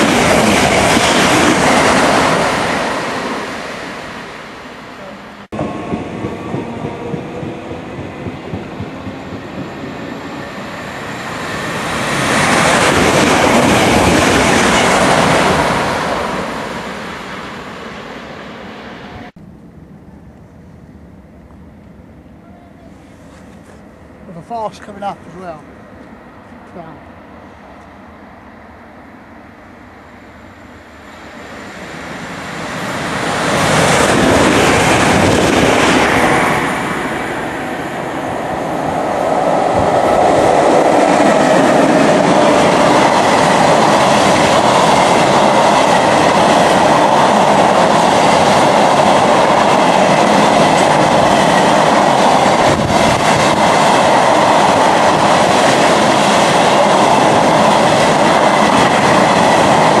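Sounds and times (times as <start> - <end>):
electric locomotive passing: 0.0 - 60.0.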